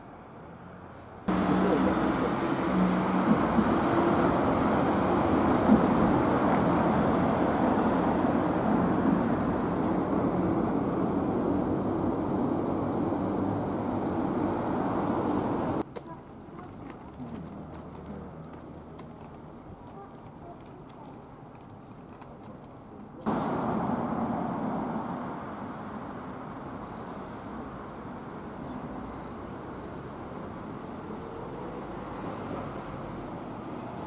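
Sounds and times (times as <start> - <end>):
road traffic: 0.0 - 34.0.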